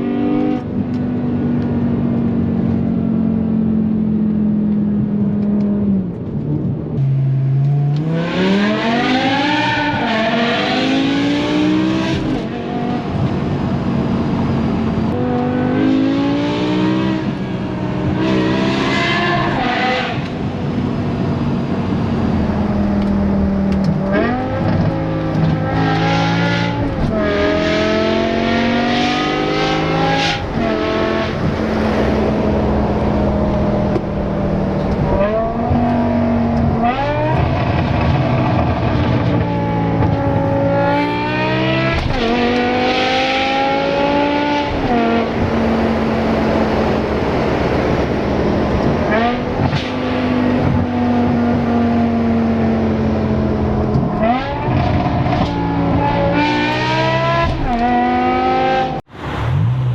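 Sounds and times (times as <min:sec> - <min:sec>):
car engine revving: 0:07.0 - 0:59.9.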